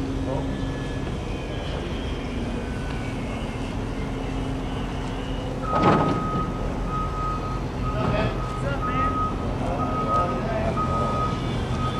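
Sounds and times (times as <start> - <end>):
heavy diesel machinery rumbling: 0.0 - 11.9
reversing alarm beeping: 0.0 - 11.9.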